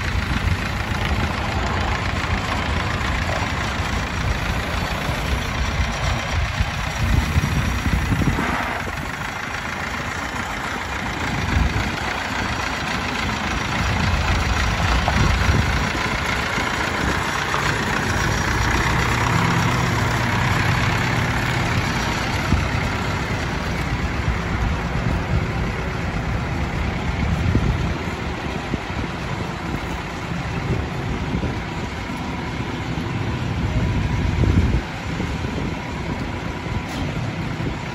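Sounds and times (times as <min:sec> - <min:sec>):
tractor engine driving by: 0:00.0 - 0:37.9.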